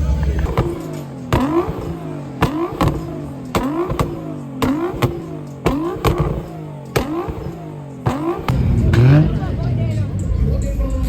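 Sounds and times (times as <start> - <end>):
sharp exhaust crack: 0.0 - 10.6
car engine revving: 0.0 - 11.0.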